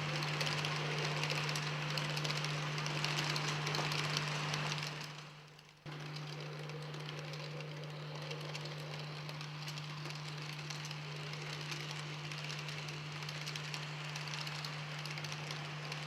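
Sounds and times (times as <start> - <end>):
electric motor hum: 0.0 - 16.0
wheels clicking on track: 0.0 - 16.0.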